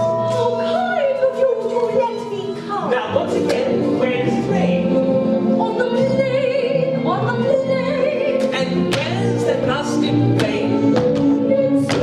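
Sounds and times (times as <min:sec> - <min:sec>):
instrumental accompaniment: 0:00.0 - 0:12.0.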